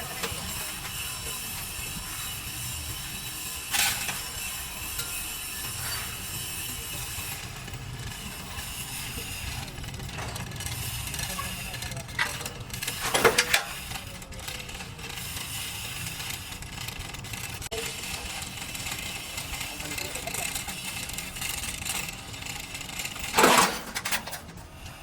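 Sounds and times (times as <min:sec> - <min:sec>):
metal tools clinking: 0:00.0 - 0:15.6, 0:19.1 - 0:24.6
steady low hum: 0:00.0 - 0:23.9.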